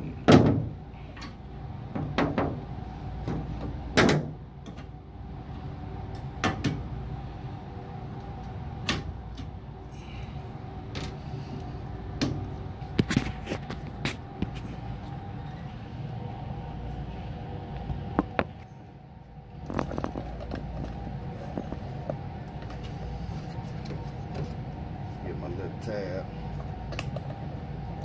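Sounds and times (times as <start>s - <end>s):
hvac equipment humming: 0.0s - 28.0s.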